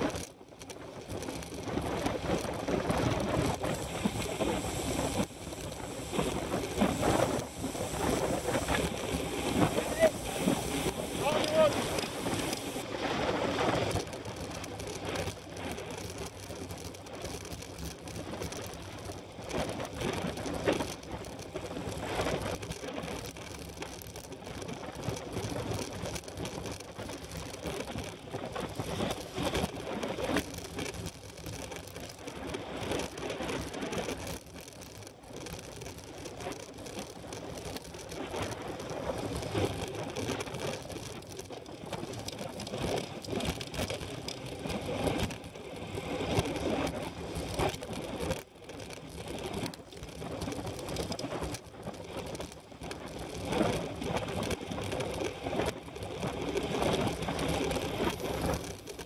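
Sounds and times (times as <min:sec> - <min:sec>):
steady noisy background: 0:00.0 - 0:59.0.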